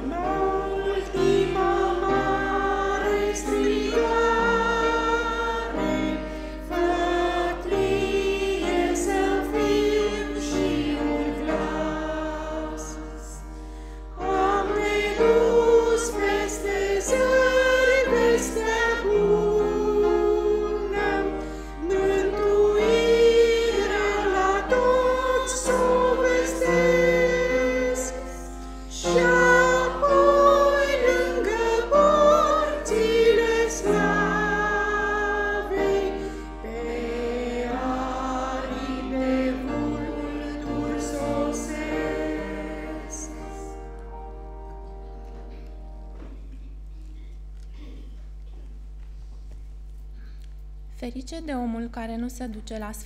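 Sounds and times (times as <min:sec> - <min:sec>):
women singing a hymn: 0:00.0 - 0:44.0.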